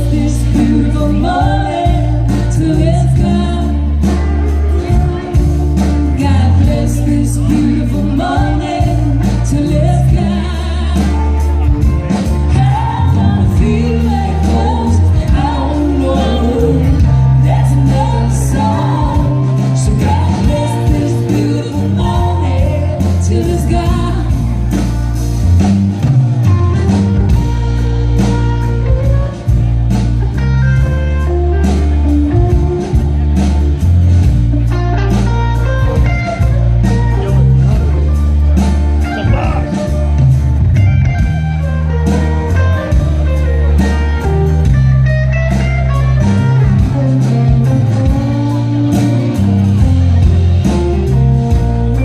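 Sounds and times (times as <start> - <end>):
live band instrumental music: 0.0 - 52.0.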